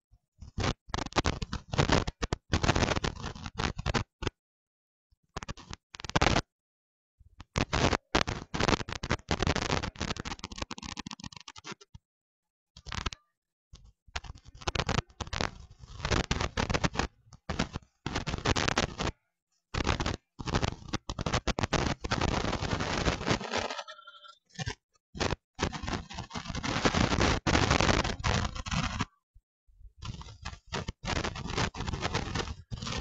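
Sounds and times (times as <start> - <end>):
harsh crackling distorted noise: 0.4 - 4.4, 5.2 - 6.5, 7.4 - 12.0, 12.8 - 29.2, 30.0 - 33.0.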